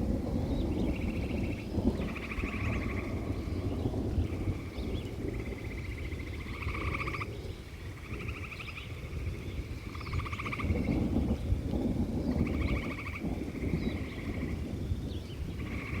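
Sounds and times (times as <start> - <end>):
frogs trilling: 0.0 - 16.0
rainstorm rumble: 0.0 - 16.0.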